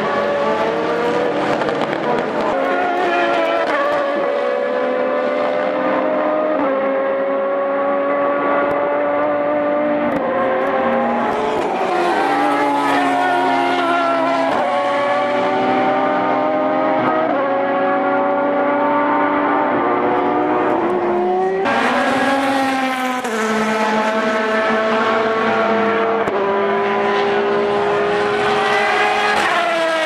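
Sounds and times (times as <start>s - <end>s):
race car engine at full speed: 0.0s - 30.0s.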